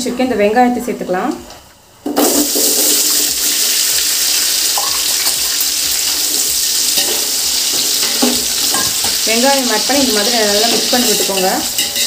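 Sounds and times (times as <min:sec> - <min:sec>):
onions sizzling in hot oil: 0:02.2 - 0:12.0.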